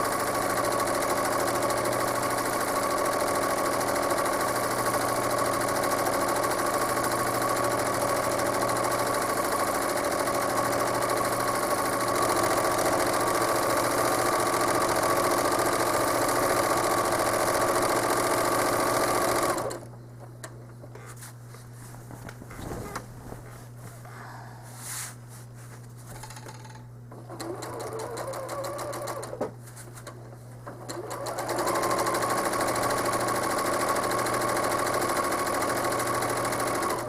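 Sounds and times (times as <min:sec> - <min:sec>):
sewing machine stitching: 0:00.0 - 0:19.9, 0:26.2 - 0:37.0.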